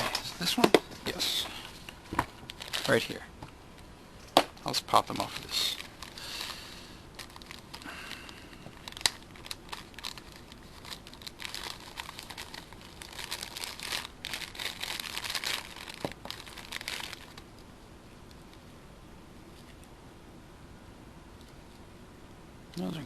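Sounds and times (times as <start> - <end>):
rustling handling noise: 0.0 - 18.8.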